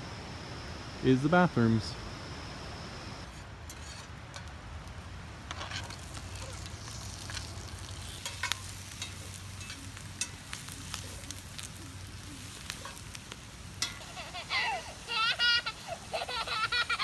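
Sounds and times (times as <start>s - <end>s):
campfire crackling and popping: 3.0s - 17.0s.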